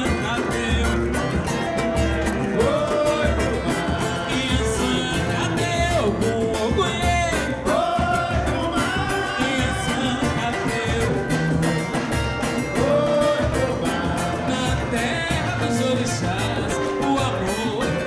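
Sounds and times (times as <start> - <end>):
hand percussion: 0.0 - 18.0
low surdo drum beats: 0.0 - 18.0
person singing: 0.0 - 18.0
strummed small guitars: 0.0 - 18.0.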